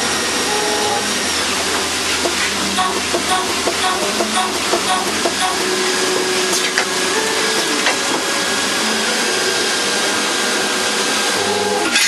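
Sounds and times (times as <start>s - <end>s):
faint machine whine: 0.0s - 12.0s
lathe cutting hiss: 0.0s - 12.0s.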